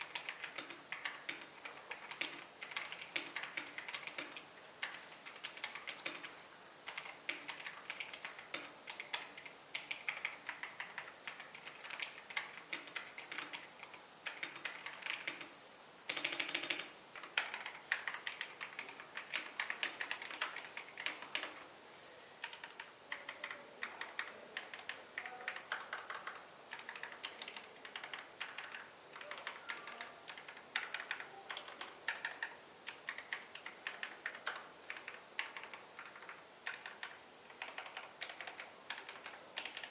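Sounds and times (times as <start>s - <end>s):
mechanical keyboard typing: 0.0s - 6.3s, 6.9s - 15.5s, 16.1s - 21.6s, 22.4s - 39.9s.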